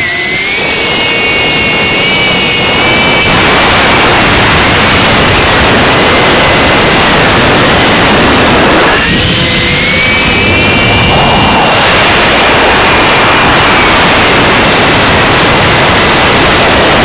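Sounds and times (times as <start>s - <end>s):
drone motors whining: 0.0s - 17.0s
rushing wind noise: 0.0s - 17.0s.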